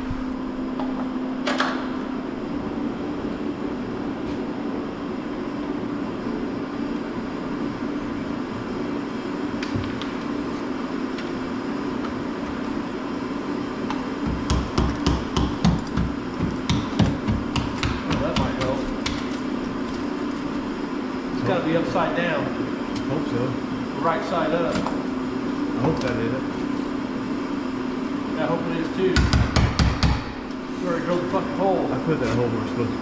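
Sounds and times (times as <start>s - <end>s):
mechanical hum: 0.0s - 33.0s.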